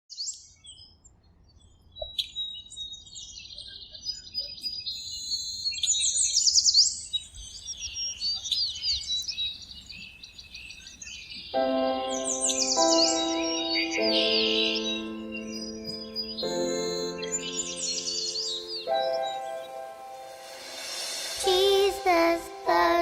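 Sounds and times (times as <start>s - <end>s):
songbirds chirping and singing: 0.2s - 23.0s.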